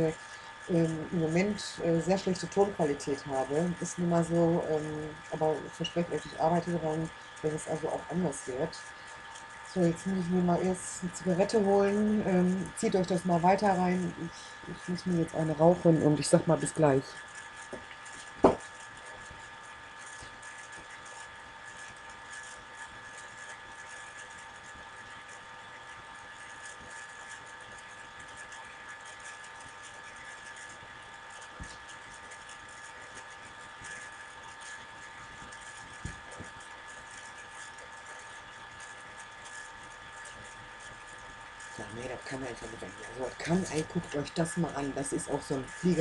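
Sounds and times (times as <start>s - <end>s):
laptop cooling fan running: 0.0s - 46.0s.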